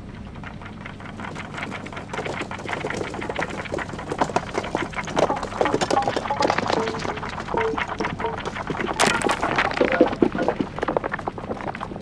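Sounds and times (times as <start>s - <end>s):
small blocks clattering: 1.0s - 11.6s.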